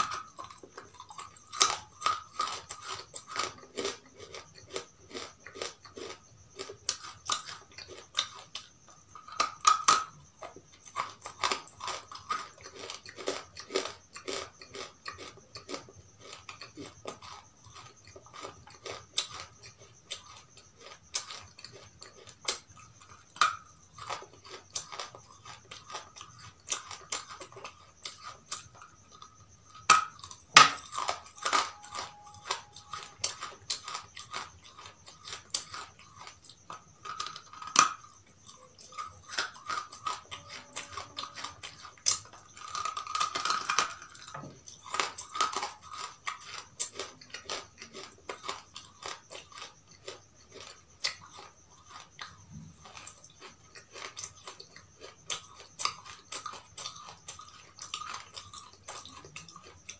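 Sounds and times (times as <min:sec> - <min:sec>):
crunchy biting and chewing: 0:00.0 - 0:59.9.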